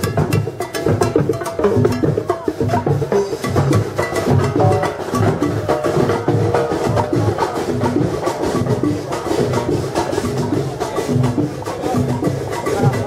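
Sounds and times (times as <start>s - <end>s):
snare and hand drums: 0.0s - 13.0s.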